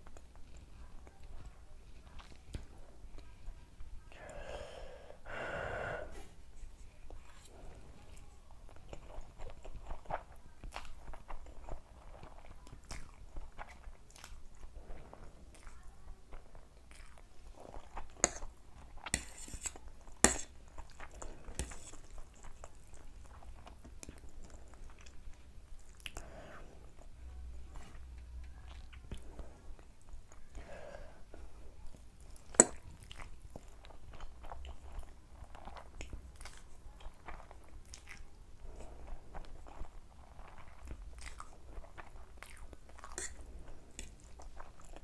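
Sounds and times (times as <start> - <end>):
close-up chewing with wet mouth clicks: 7.0 - 30.7, 31.8 - 45.0.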